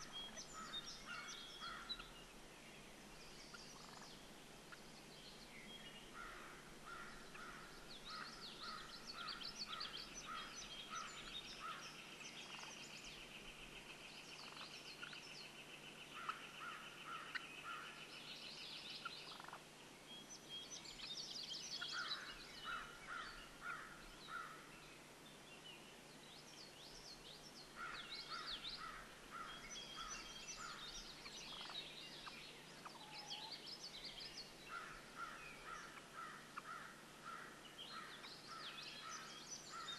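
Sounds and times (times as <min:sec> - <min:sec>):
faint birds calling: 0:00.0 - 0:39.9.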